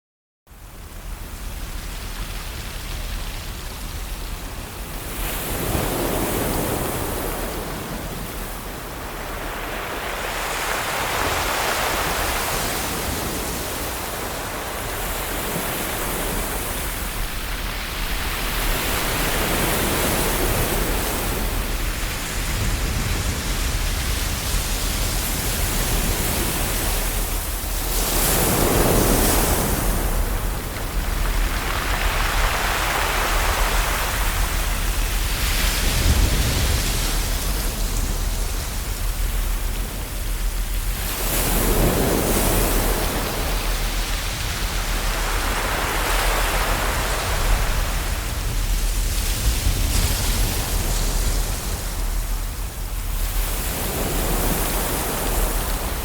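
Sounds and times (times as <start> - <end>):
ocean waves washing on shore: 0.5 - 56.0.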